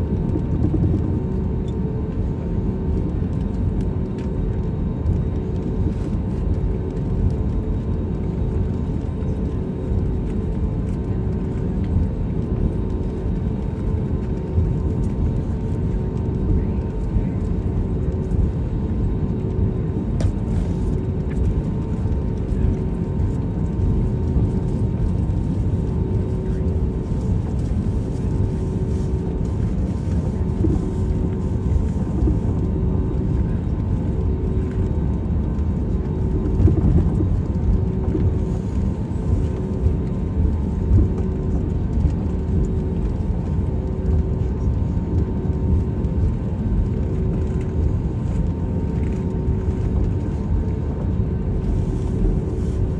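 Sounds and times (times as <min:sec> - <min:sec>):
aircraft cabin rumble: 0:00.0 - 0:52.9.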